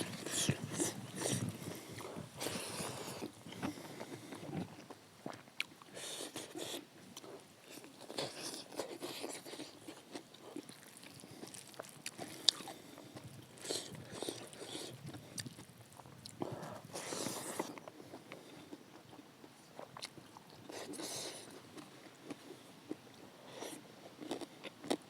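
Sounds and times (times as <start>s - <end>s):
person chewing and biting: 0.0s - 4.9s, 5.6s - 18.2s, 19.8s - 25.0s.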